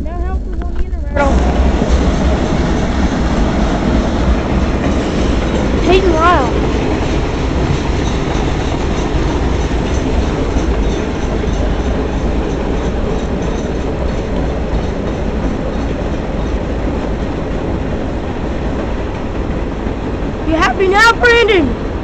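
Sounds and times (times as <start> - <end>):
train wheels rumbling on rail: 0.0 - 22.0
rhythmic clickety-clack: 0.1 - 22.0.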